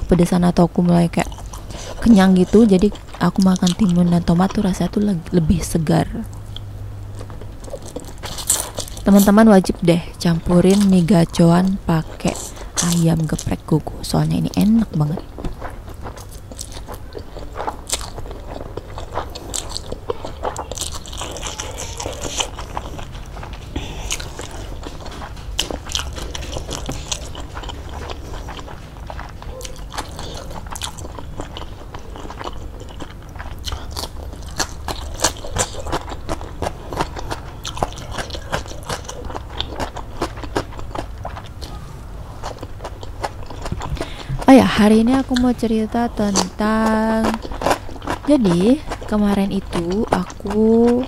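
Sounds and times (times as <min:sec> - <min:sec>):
person chewing crunchy food: 0:00.0 - 0:51.0.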